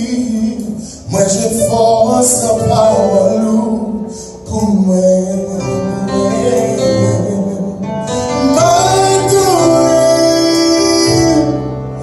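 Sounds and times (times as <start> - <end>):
man singing into microphone: 0.0 - 12.0.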